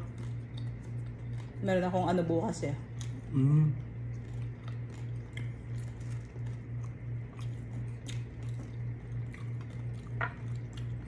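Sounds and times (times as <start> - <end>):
chewing fried fish: 0.0 - 2.2, 2.8 - 11.0
pulsing low hum: 0.0 - 11.0.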